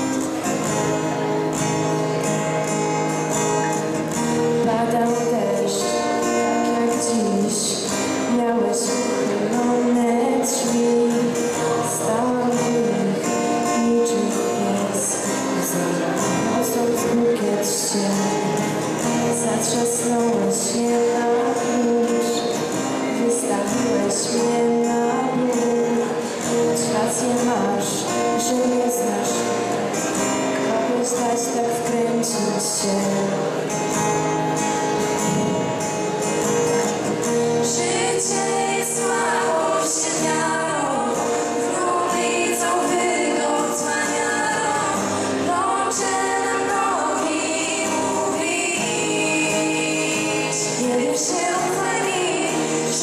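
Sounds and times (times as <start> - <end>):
acoustic guitar strumming: 0.0 - 53.0
girl singing: 4.4 - 33.4, 37.6 - 53.0.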